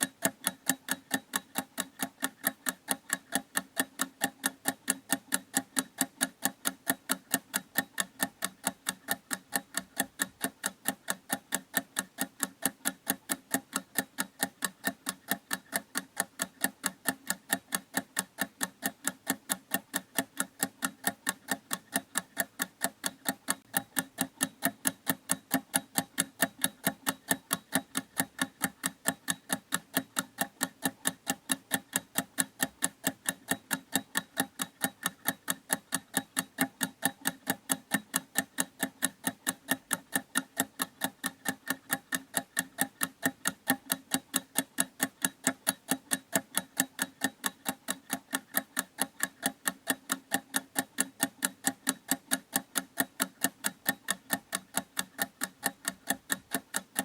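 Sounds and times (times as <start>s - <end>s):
clock ticking fast: 0.0s - 57.0s.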